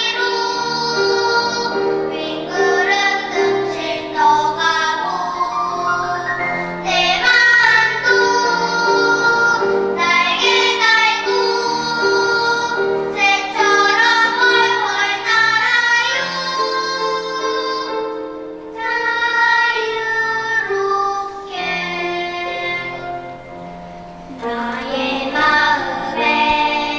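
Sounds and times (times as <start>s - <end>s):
children's choir singing: 0.0s - 26.9s.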